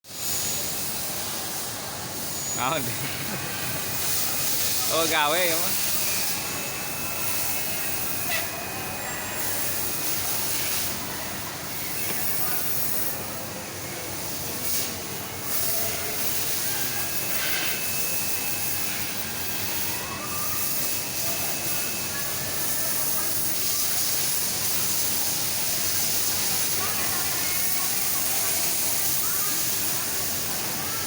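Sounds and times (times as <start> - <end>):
conveyor machine running: 0.1 - 31.0.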